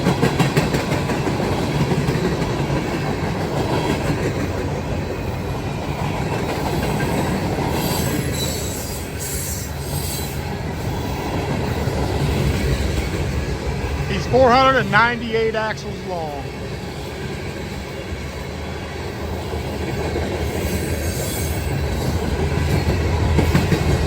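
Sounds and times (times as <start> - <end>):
train wheels rumbling on rails: 0.0 - 15.2, 16.5 - 24.0.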